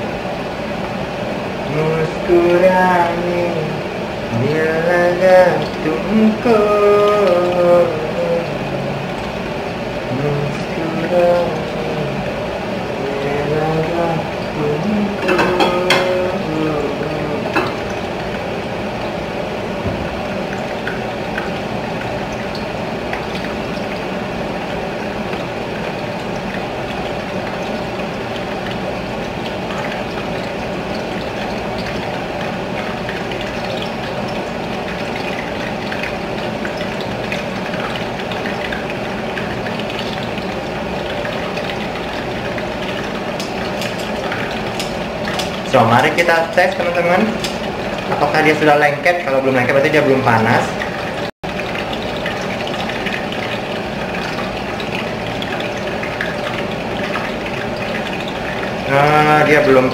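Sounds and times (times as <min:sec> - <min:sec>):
faint constant hum: 0:00.0 - 0:59.9.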